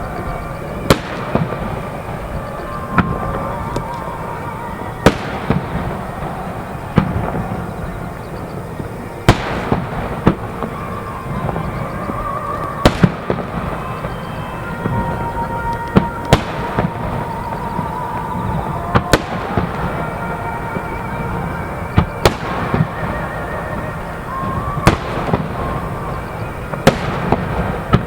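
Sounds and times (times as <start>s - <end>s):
fireworks booming bangs: 0.0s - 28.0s.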